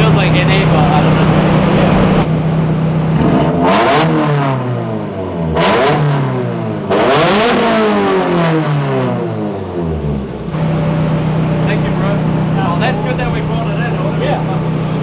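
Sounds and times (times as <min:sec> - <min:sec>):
turbocharged engine revving: 0:00.0 - 0:15.0.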